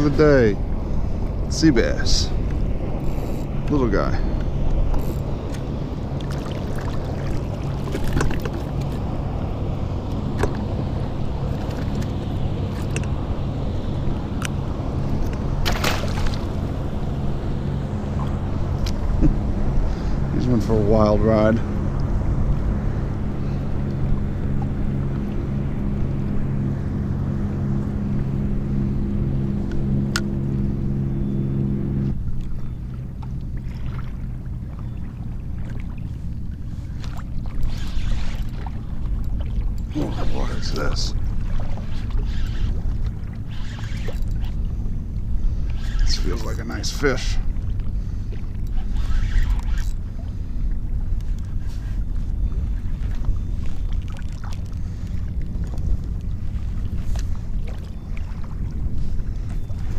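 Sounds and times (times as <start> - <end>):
water slapping kayak hull: 0.0 - 30.4, 32.1 - 59.9
steady low drone: 0.0 - 59.9
steady low hum: 0.0 - 59.9
wind and water rushing: 0.0 - 59.9.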